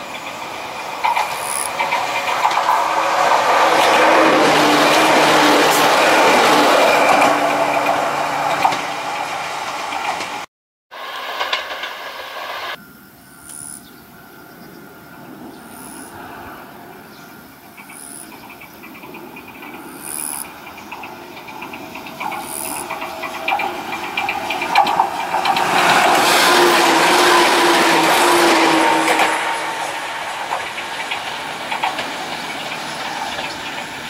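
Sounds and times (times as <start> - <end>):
train motor hum: 0.0 - 12.8, 13.4 - 34.0
wheels clicking over rail joints: 0.0 - 12.8, 17.0 - 34.0.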